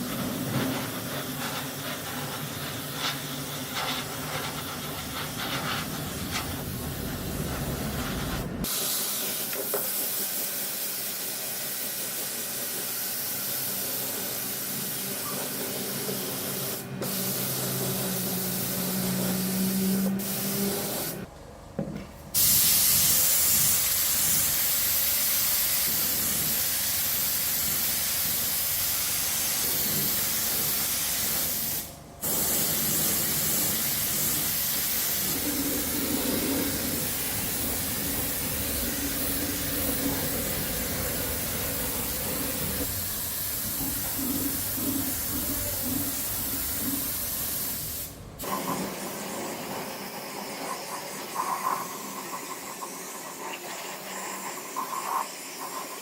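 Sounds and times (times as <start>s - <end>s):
hissing spray: 0.0s - 21.3s, 22.4s - 56.0s.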